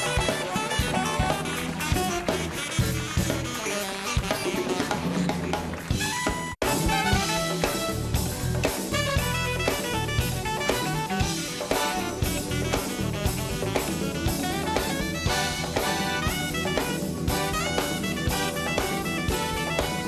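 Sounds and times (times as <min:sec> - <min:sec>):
band playing upbeat jazzy music: 0:00.0 - 0:20.0
brass: 0:00.0 - 0:20.0
drum kit beat: 0:00.0 - 0:20.0.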